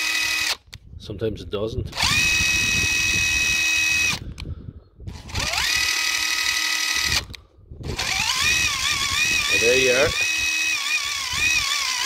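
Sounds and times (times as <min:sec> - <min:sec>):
impact wrench whining: 0:00.0 - 0:00.7, 0:02.0 - 0:04.4, 0:05.1 - 0:12.0.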